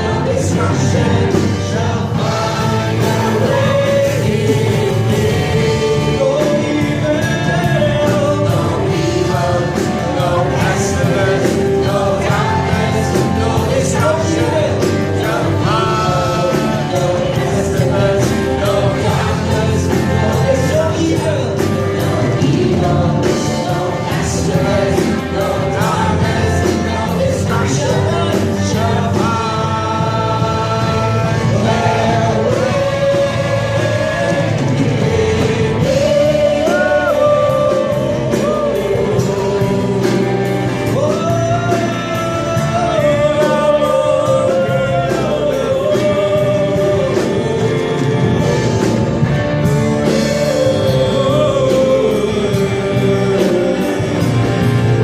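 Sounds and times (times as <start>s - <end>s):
band playing: 0.0s - 55.0s
voices singing: 0.0s - 55.0s.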